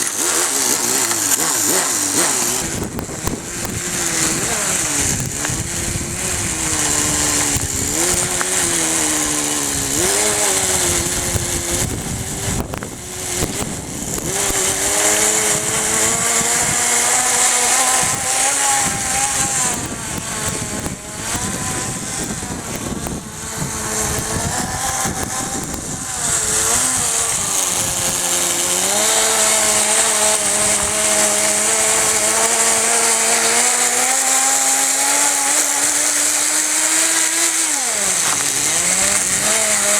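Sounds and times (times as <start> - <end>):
small engine buzzing and revving: 0.0 - 39.9.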